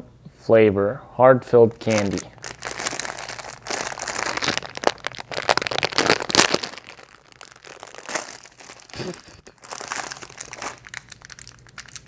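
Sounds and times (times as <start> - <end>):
plastic bag crinkling: 1.8 - 12.0.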